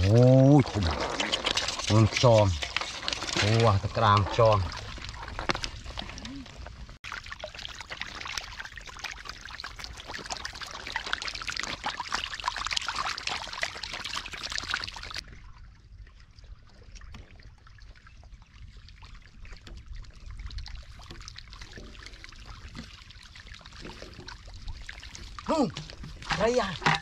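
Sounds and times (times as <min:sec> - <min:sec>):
shallow water splashing: 0:00.0 - 0:27.0.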